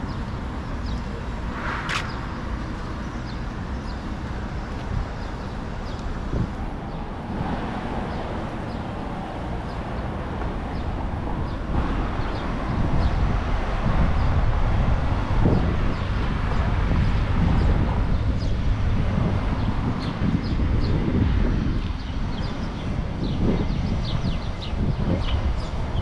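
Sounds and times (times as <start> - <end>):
passing traffic: 0.0 - 26.0
wind on microphone: 0.0 - 26.0.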